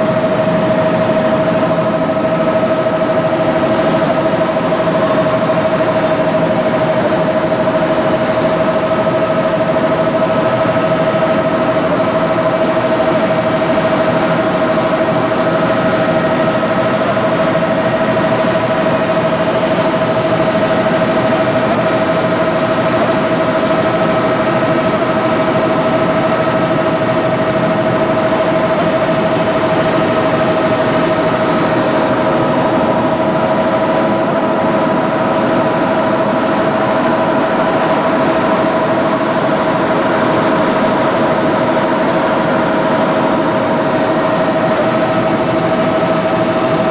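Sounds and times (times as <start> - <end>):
helicopter running: 0.0 - 46.9.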